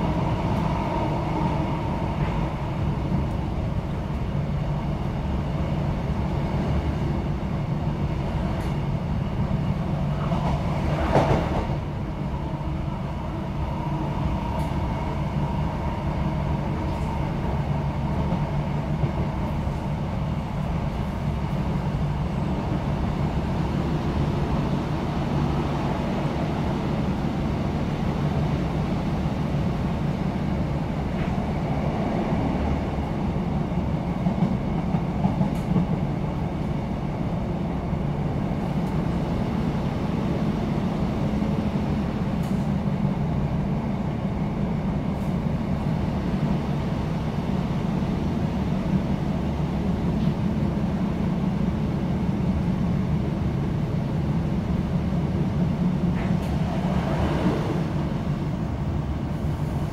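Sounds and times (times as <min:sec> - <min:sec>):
train diesel engine rumble: 0:00.0 - 0:59.9
train wheels on rails: 0:00.0 - 0:59.9.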